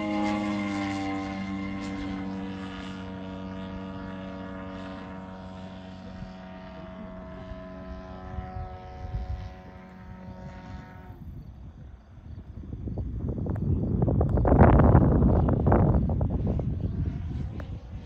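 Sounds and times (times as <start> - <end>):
model airplane engine: 0.0 - 18.0
wind on microphone: 0.0 - 18.0.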